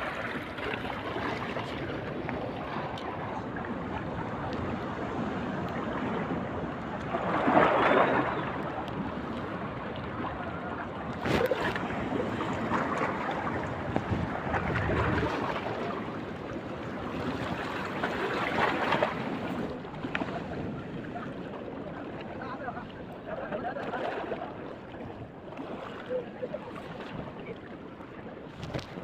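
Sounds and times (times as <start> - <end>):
sea waves surging and washing: 0.0 - 29.0.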